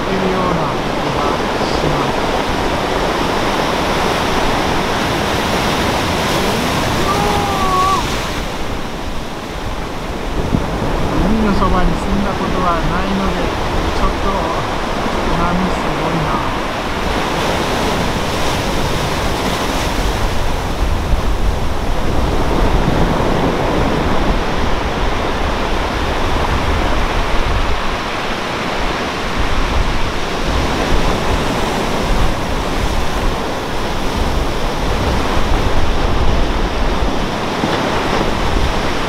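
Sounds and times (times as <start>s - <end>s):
sea surf breaking: 0.0s - 39.0s
wind rumbling on microphone: 0.0s - 39.0s.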